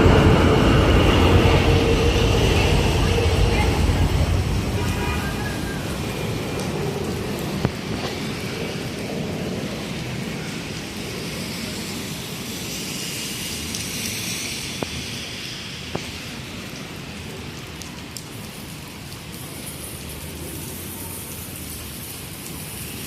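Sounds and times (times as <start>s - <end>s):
rain and wet-street traffic hiss: 0.0s - 23.0s.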